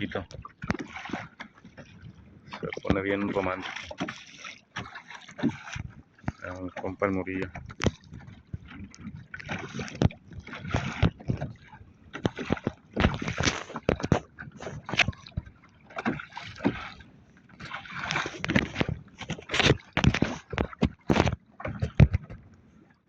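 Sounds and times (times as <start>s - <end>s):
water slapping boat hull: 0.0s - 23.0s.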